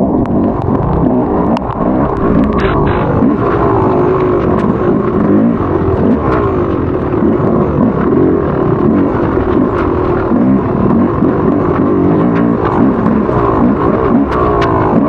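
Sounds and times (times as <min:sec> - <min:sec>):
dirt bike engine revving: 0:00.0 - 0:15.0
sharp ticks: 0:00.0 - 0:15.0.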